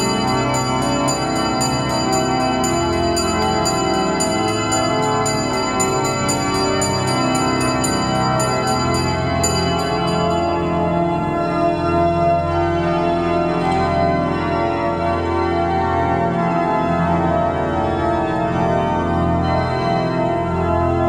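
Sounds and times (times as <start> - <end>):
pipe organ chords: 0.0 - 21.0.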